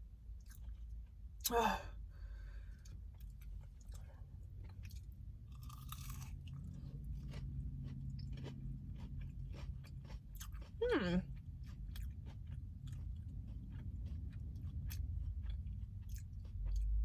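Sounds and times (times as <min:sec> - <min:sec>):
chewing crunchy food: 0:00.2 - 0:01.3, 0:02.6 - 0:17.0
food crunching: 0:00.3 - 0:01.2, 0:02.7 - 0:17.0.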